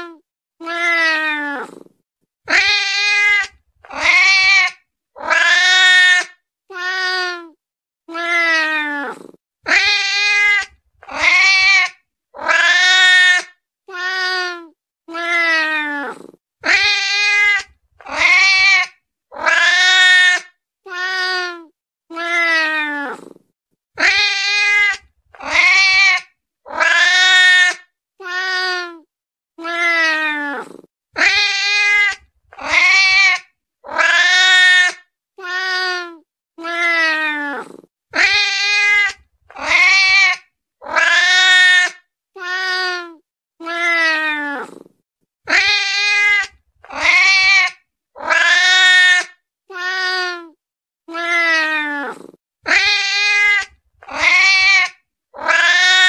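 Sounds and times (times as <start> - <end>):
cat meowing: 0.0 - 1.8, 2.5 - 23.3, 29.6 - 44.8, 45.5 - 50.5, 51.1 - 56.0.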